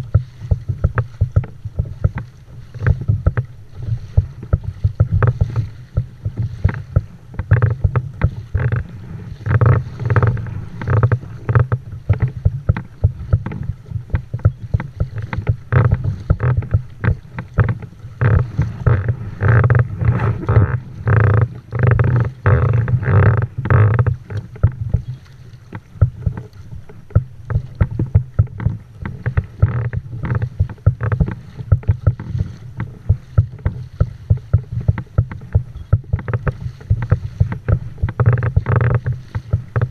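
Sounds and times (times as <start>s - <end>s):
water slapping against hull: 0.0s - 39.9s
wind rumble on microphone: 0.0s - 39.9s.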